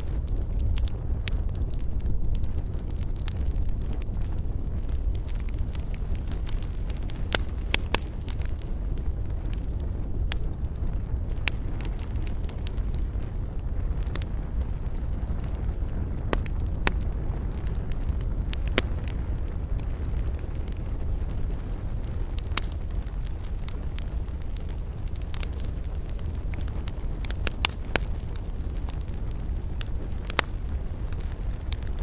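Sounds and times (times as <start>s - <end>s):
fire roaring: 0.0s - 32.0s
wood fire crackling and popping: 0.0s - 32.0s.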